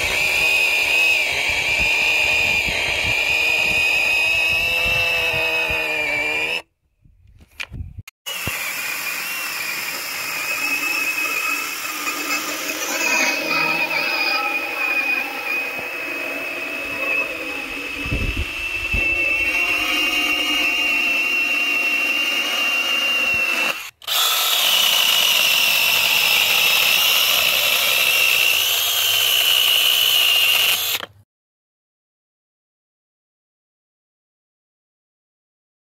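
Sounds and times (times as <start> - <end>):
mini chainsaw whining: 0.0 - 6.7, 8.3 - 31.2.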